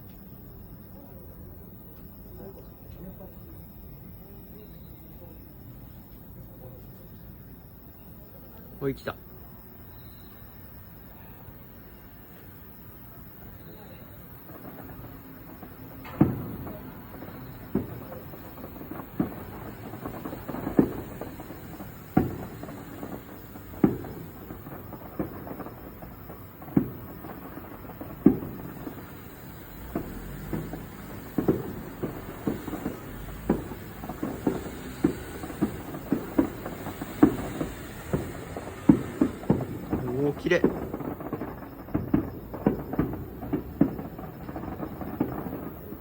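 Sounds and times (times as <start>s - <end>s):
firework shells booming: 8.6s - 46.0s.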